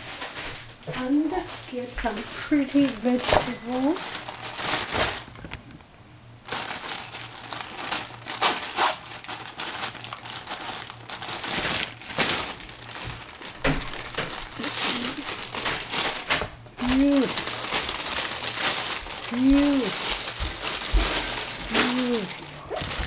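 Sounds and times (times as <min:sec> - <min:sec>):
crinkling and rustling: 0:00.0 - 0:23.0.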